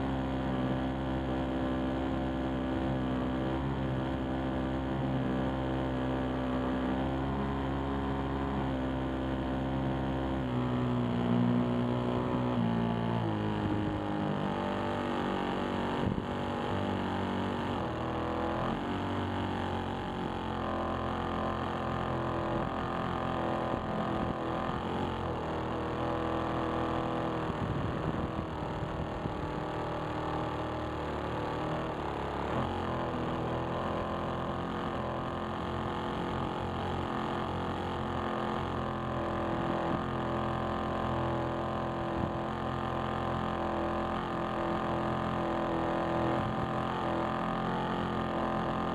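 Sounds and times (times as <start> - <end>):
model plane motor droning: 0.0 - 48.9.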